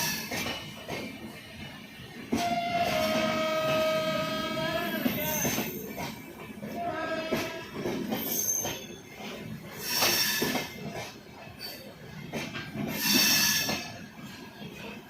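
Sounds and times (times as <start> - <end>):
train carriages rumbling: 0.0 - 15.0.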